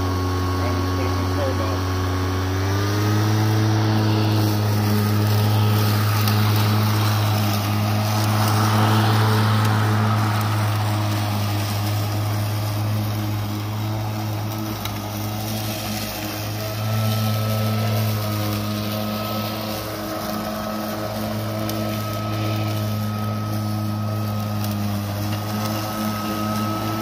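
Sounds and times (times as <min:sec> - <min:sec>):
lawn mower humming: 0:00.0 - 0:27.0.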